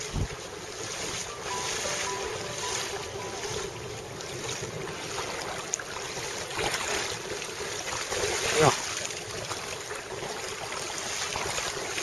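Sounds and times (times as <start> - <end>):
water lapping: 0.0 - 12.0
wind buffeting microphone: 0.0 - 12.0.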